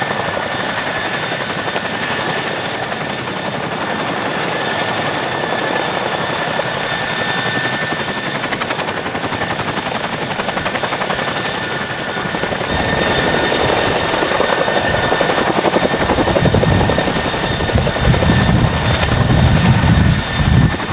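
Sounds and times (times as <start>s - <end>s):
helicopter rotor blade chop: 0.0s - 20.9s
turbine whine: 0.0s - 20.9s.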